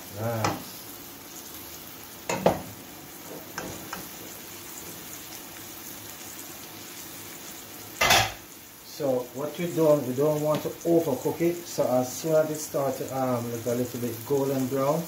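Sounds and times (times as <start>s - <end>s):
chicken sizzling in butter: 0.0s - 15.0s.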